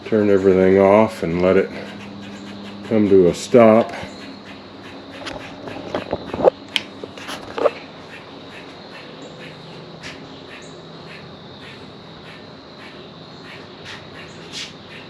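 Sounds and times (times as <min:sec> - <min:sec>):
bird chirps: 0:00.0 - 0:06.5, 0:07.6 - 0:15.0
high insect tone: 0:00.0 - 0:15.0.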